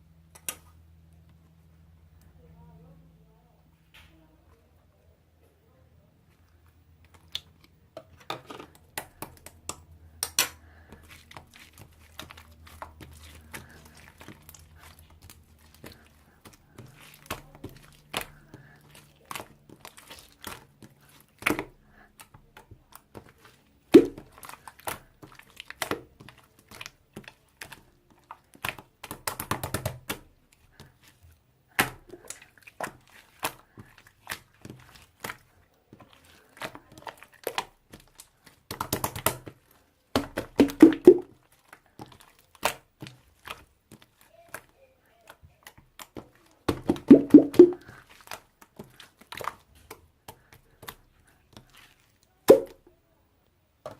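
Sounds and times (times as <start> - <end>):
slime squelching and popping: 7.0 - 52.8.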